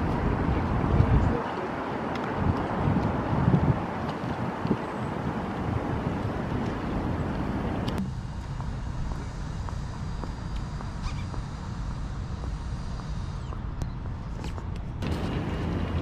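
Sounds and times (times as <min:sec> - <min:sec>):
traffic: 0:00.0 - 0:16.0
wind on microphone: 0:00.0 - 0:16.0.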